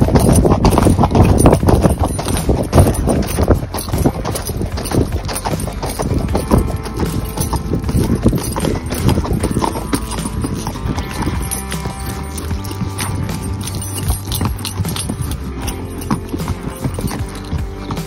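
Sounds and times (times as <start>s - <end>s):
horse hoofbeats on dirt: 0.0s - 18.0s.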